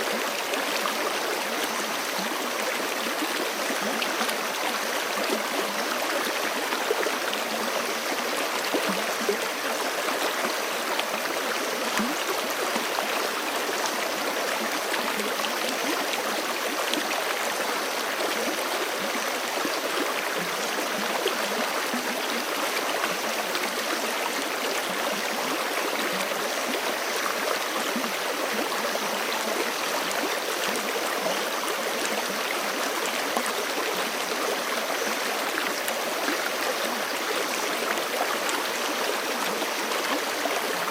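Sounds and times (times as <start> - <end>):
creek flowing over rocks: 0.0 - 40.9.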